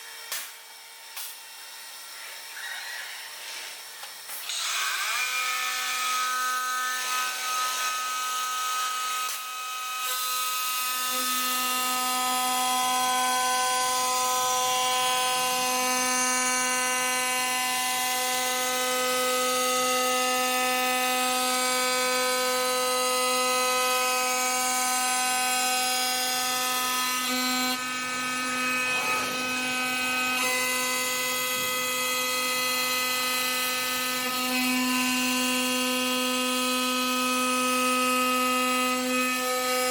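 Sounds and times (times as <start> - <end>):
low machining noise: 0.0 - 39.9
machine whine: 0.0 - 39.9.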